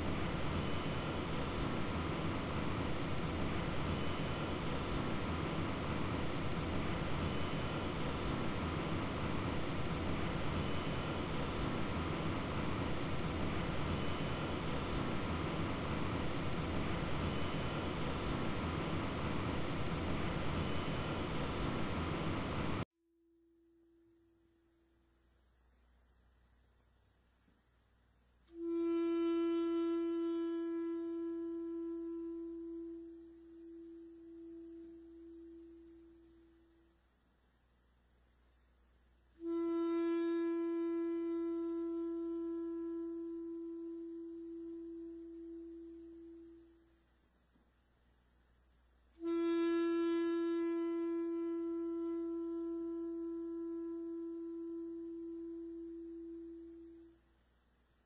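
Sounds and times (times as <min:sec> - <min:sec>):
alto saxophone long note: 0:00.0 - 0:22.8, 0:28.4 - 0:37.0, 0:39.3 - 0:47.0, 0:49.1 - 0:57.3.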